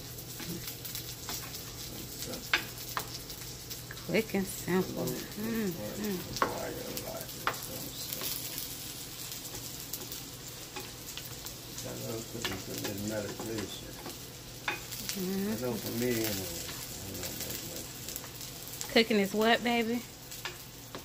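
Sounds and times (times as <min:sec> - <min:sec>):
food sizzling in frying pans: 0:00.0 - 0:21.0.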